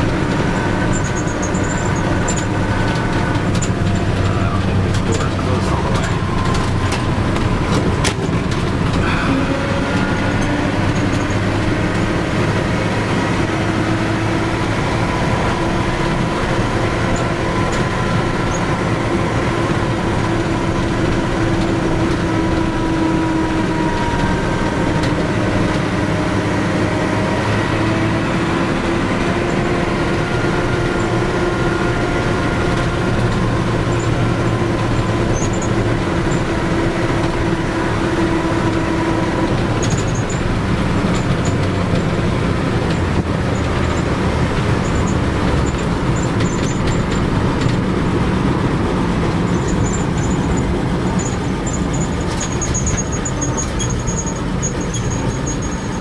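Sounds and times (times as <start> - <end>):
pickup engine running: 0.0 - 56.0
road noise: 0.0 - 56.0.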